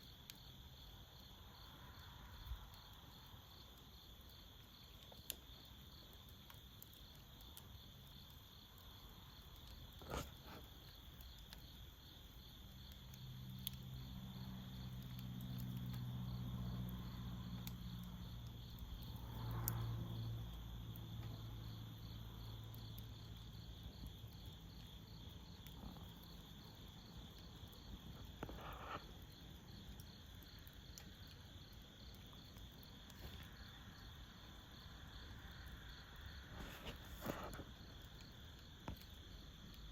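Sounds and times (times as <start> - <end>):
crickets chirring: 0.1 - 39.9.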